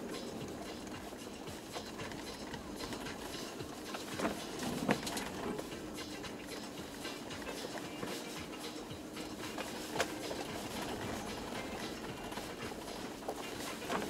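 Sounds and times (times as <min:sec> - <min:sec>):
road and tyre noise: 0:00.0 - 0:14.0
small rattles and clicks: 0:00.0 - 0:14.0.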